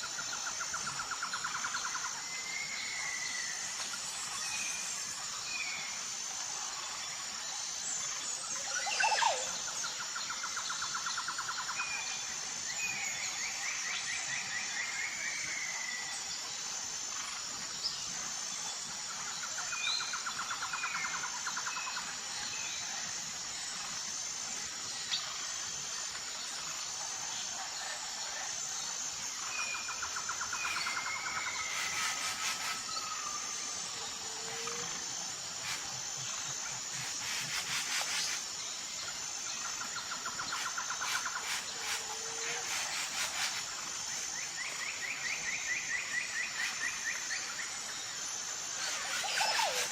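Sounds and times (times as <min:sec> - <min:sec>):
pulsing insect chorus: 0:00.0 - 0:49.9.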